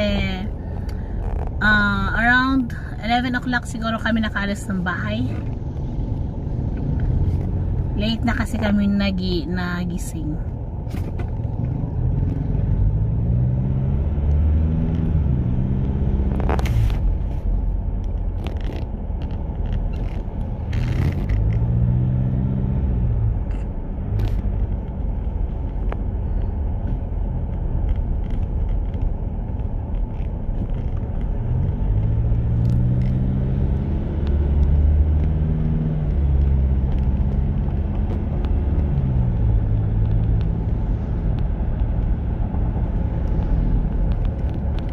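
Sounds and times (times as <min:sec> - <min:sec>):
car engine and road noise: 0:00.0 - 0:44.9.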